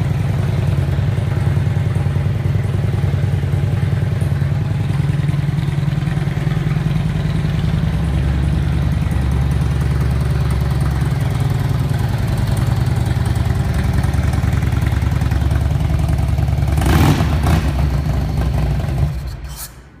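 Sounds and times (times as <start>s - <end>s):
motorcycle engine idling: 0.0s - 19.6s.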